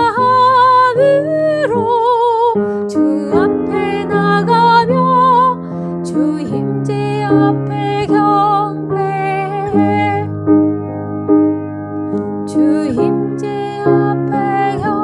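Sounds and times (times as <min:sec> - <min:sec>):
woman singing with vibrato: 0:00.0 - 0:10.3, 0:12.5 - 0:15.0.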